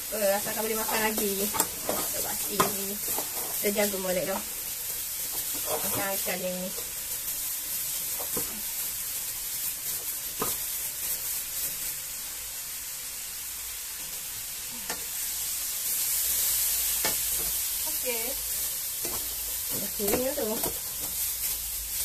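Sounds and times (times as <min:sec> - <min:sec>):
paste sizzling in a wok: 0:00.0 - 0:22.0.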